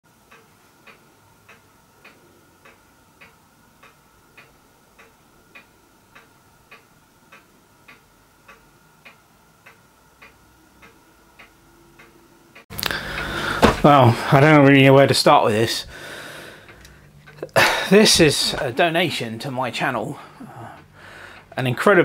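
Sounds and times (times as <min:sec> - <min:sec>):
faint high hum: 0:00.6 - 0:22.0.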